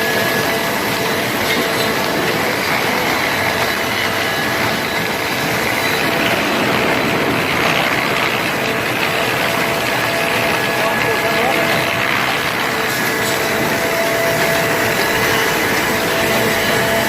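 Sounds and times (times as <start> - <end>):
sawmill machinery rushing noise: 0.0 - 17.0.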